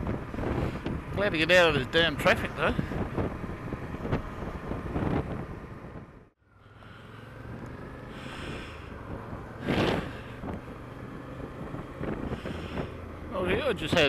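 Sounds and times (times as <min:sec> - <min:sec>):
wind noise on microphone: 0:00.0 - 0:06.3, 0:07.8 - 0:14.0.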